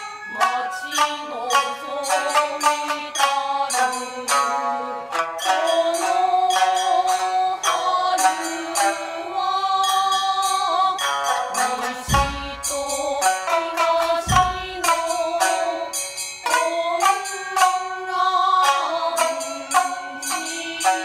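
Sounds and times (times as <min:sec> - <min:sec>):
plucked shamisen notes: 0:00.0 - 0:21.0.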